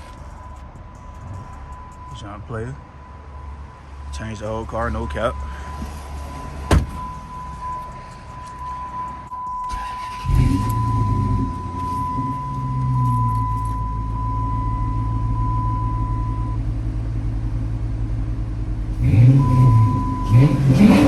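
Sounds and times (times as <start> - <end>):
car engine starting and idling: 0.0 - 21.0.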